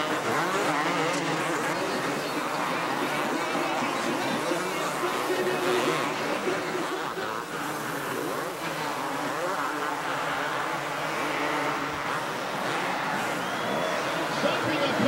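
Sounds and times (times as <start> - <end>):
crowd-like background haze: 0.0 - 15.0
motorcycle engines revving: 0.0 - 15.0.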